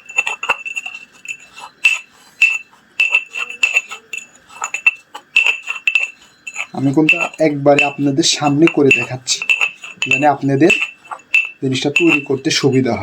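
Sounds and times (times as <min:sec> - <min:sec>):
utensil clinking in metal container: 0:00.0 - 0:13.0.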